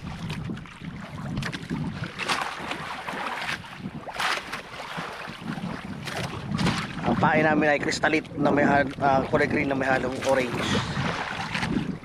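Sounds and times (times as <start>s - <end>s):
water splashing against boat hull: 0.0s - 12.0s
wind buffeting microphone: 0.0s - 12.0s.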